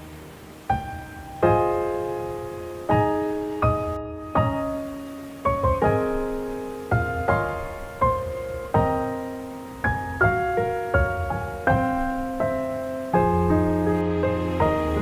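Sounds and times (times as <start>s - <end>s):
soft slow piano chords: 0.0s - 15.0s.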